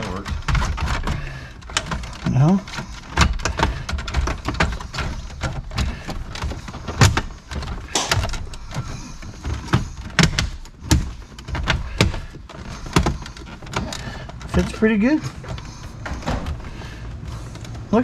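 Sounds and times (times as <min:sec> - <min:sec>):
hard plastic knocks and clicks: 0:00.0 - 0:17.8.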